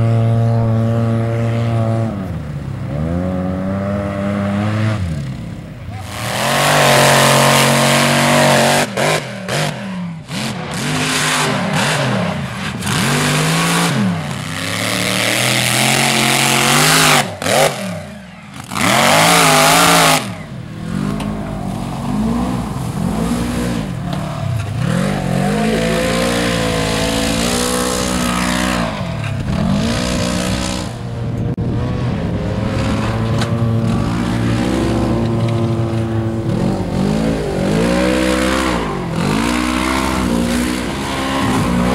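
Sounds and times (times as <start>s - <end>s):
mud truck engine revving: 0.0s - 41.9s
utility vehicle engine revving: 0.0s - 41.9s.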